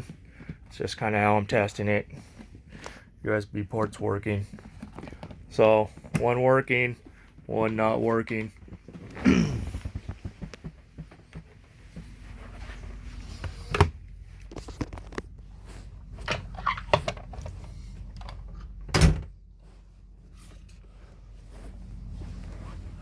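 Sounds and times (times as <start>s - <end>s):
steady low hum: 4.5s - 23.0s.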